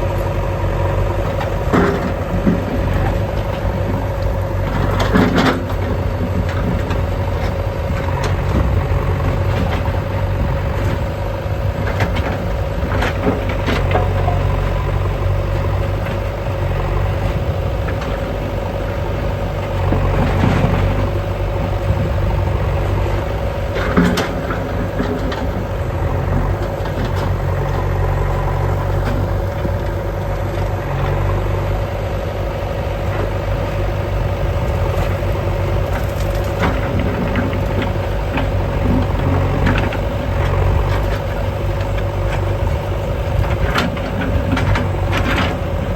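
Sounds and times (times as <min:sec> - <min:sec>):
diesel engine running with whine: 0:00.0 - 0:45.9.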